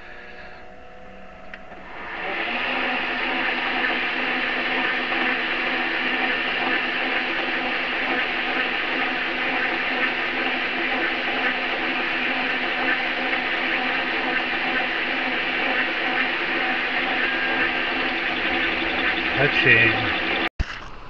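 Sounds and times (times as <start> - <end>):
metal lathe running: 1.7 - 20.5.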